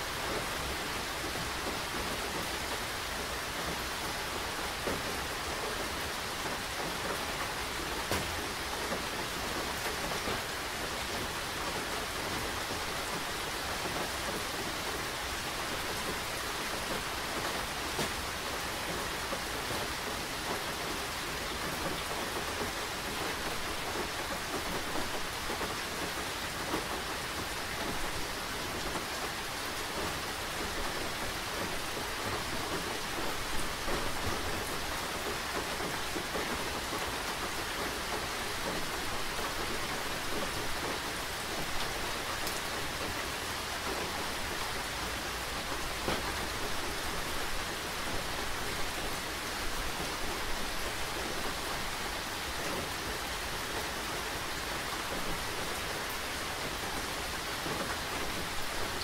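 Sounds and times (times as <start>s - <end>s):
dense rain falling on surfaces: 0.0s - 59.0s.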